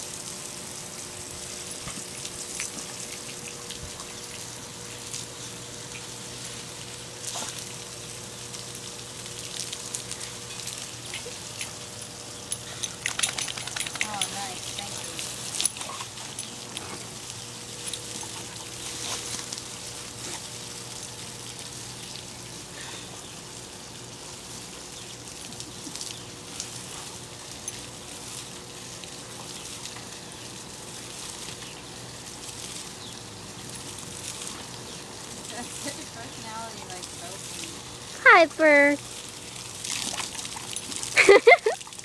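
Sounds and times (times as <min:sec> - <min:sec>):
dog splashing and drinking: 0:00.0 - 0:42.0
hose water spraying on grass: 0:00.0 - 0:42.0.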